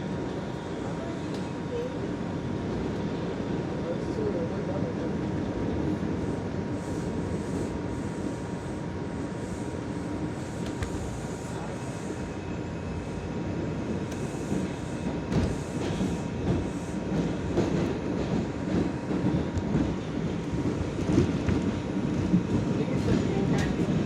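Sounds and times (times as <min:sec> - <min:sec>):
subway car rumble: 0:00.0 - 0:24.0.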